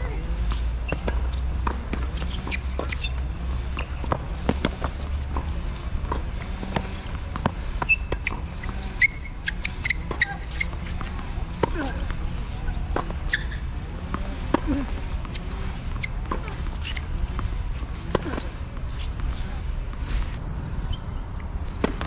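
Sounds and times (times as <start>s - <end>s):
tennis balls struck and bouncing: 0.0s - 20.4s, 21.5s - 22.0s
sneaker squeaks on court: 0.2s - 7.1s, 7.8s - 17.4s, 18.0s - 19.6s.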